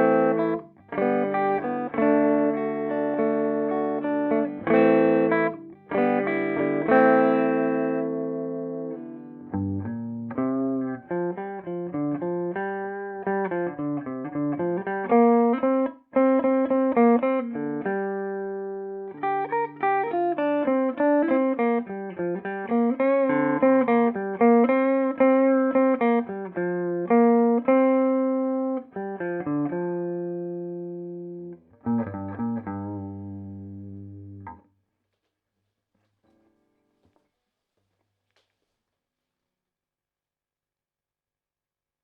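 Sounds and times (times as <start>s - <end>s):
clean electric guitar notes and chords: 0.0s - 34.6s.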